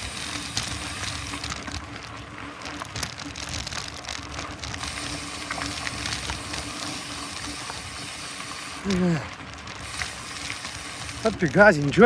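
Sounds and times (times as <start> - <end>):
bike tyres crackling on grit: 0.0 - 12.0.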